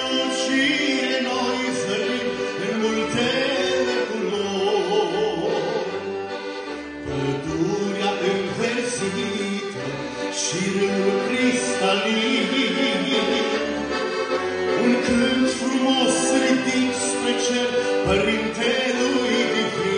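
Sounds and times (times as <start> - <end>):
man singing: 0.0 - 6.1, 7.0 - 19.9
accordion playing slow melody: 0.0 - 19.9.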